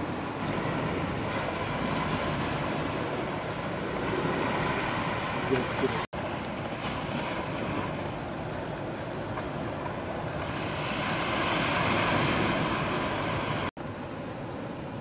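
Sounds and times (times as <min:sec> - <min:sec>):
distant breaking surf: 0:00.0 - 0:15.0
wind: 0:00.0 - 0:15.0.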